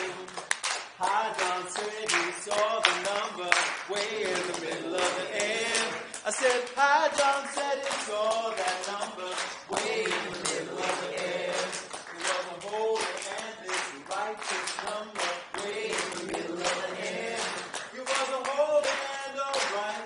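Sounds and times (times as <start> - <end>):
audience clapping a rhythm: 0.0 - 20.0
group singing: 0.0 - 20.0.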